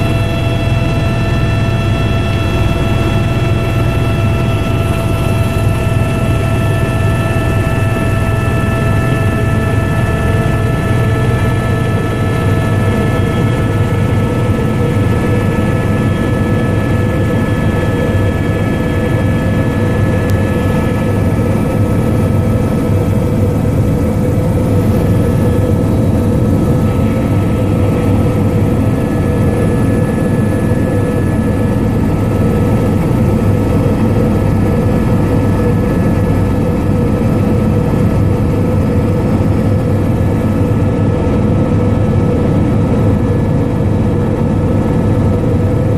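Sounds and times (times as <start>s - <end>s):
helicopter rotor and engine drone: 0.0s - 45.9s
steady whine: 0.0s - 45.9s.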